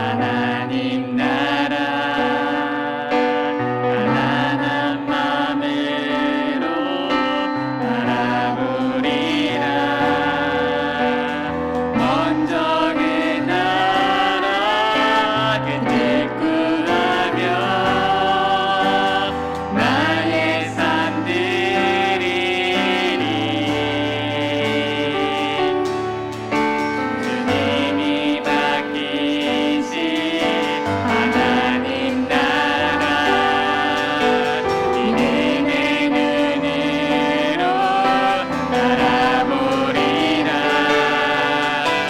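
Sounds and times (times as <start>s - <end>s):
piano accompaniment: 0.0s - 42.0s
vocalists singing in harmony: 0.0s - 42.0s.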